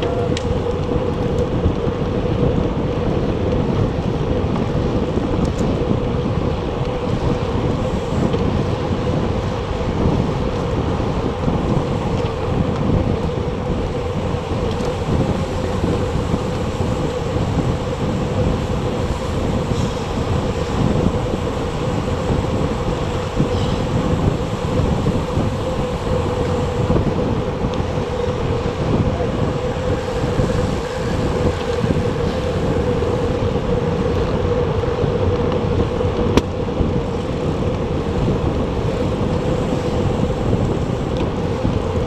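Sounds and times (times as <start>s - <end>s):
constant hum: 0.0s - 42.0s
wind rush on microphone: 0.0s - 42.0s.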